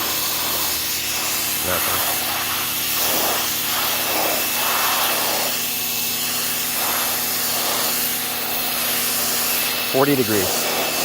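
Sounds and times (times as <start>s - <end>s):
pressure washer motor hum: 0.0s - 11.0s
water jet hissing on wood: 0.0s - 11.0s.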